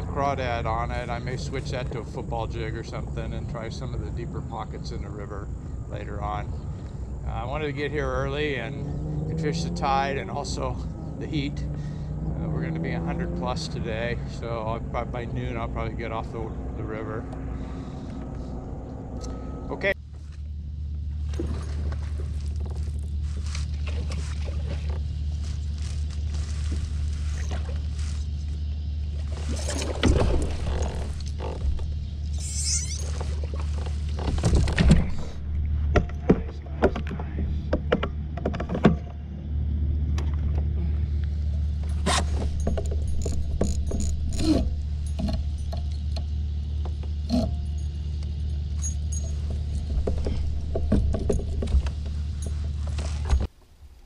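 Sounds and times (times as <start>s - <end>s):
steady low drone: 0.0s - 53.5s.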